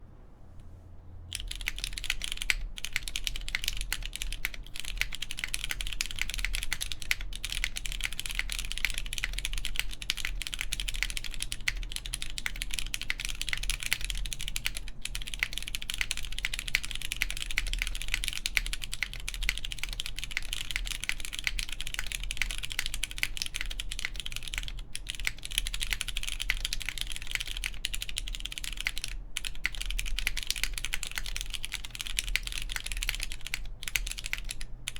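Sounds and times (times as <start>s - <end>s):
fast typing on mechanical keyboard: 1.3s - 34.9s.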